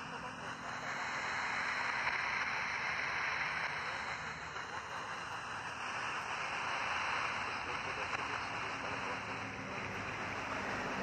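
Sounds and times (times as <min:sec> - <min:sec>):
shortwave radio static hiss: 0:00.0 - 0:11.0.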